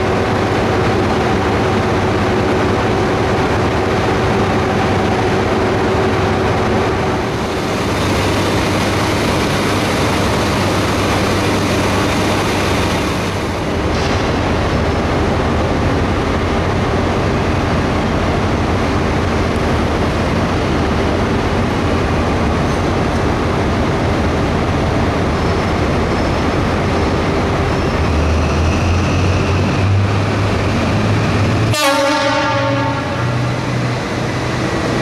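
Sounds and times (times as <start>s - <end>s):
diesel engine drone: 0.0s - 35.0s.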